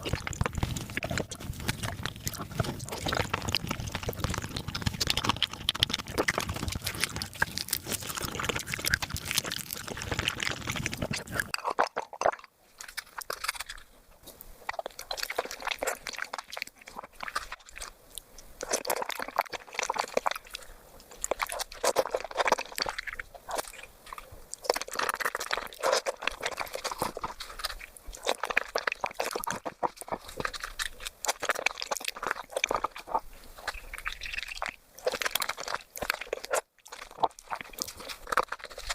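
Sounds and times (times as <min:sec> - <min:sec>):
sped up chewing and crunching: 0:00.0 - 0:38.9.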